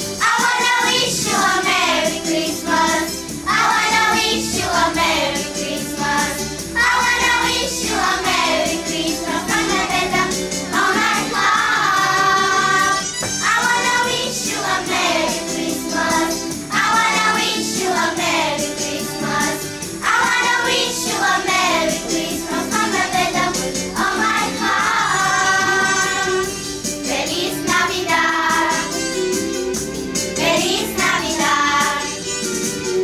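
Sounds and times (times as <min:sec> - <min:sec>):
children's choir singing a carol: 0:00.2 - 0:29.2, 0:30.3 - 0:32.2.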